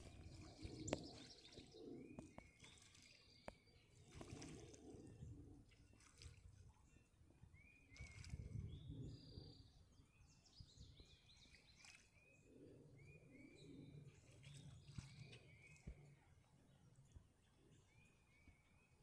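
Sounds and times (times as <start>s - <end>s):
faint whistled birdsong: 0.0s - 4.2s, 6.8s - 19.0s.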